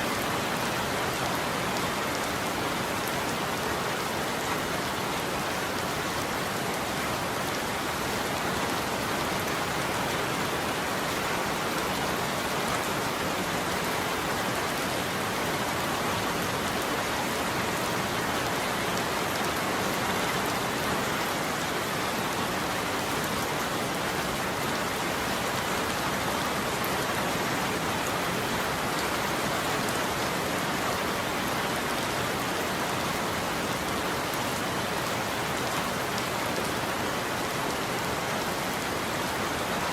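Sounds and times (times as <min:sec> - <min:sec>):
heavy rain pattering: 0:00.1 - 0:39.9.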